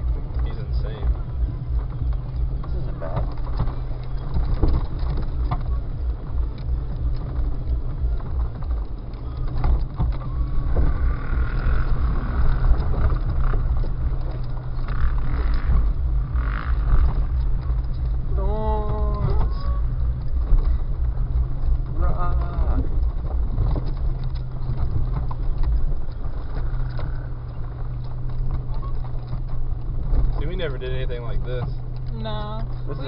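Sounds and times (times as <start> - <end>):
car engine droning: 0.0 - 33.0
knocks and rattles in cab: 0.0 - 33.0.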